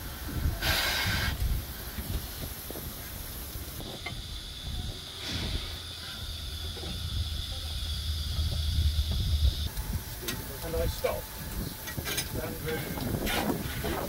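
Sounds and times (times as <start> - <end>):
locomotive low rumble: 0.0 - 14.0
steam hissing: 0.0 - 14.0.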